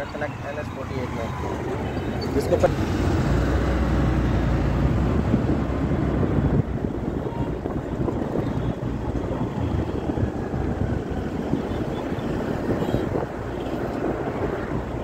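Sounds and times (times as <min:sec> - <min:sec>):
vehicle road noise: 0:00.0 - 0:15.0
wind buffeting microphone: 0:01.4 - 0:15.0.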